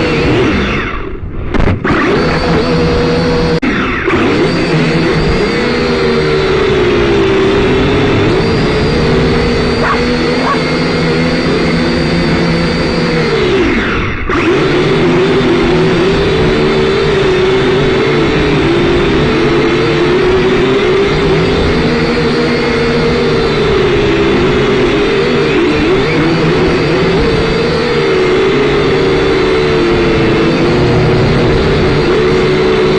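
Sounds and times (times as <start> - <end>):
quadcopter propellers whining: 0.0 - 32.9.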